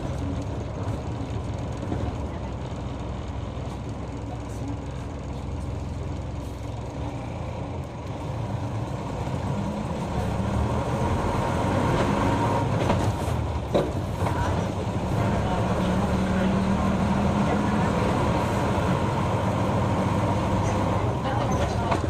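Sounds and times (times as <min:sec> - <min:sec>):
bus diesel engine running: 0:00.0 - 0:22.0
road and cabin noise: 0:00.0 - 0:22.0.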